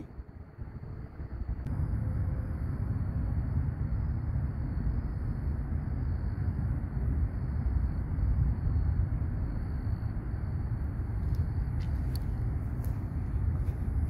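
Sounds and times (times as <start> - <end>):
faint high whine: 0.0 - 14.0
wind buffeting microphone: 0.0 - 14.0.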